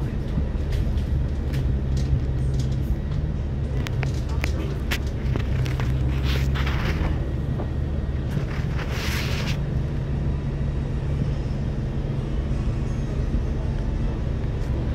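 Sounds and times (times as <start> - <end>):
bus engines rumbling: 0.0 - 14.9.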